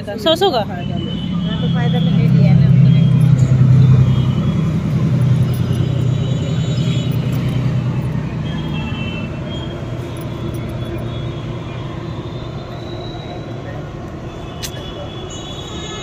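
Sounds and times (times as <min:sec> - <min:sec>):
street noise: 0:00.0 - 0:16.0
vehicle engine humming: 0:00.0 - 0:16.0.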